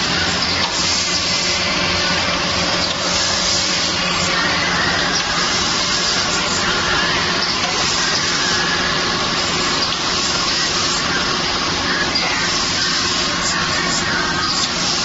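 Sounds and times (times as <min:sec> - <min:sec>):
filling machine running: 0:00.0 - 0:15.0.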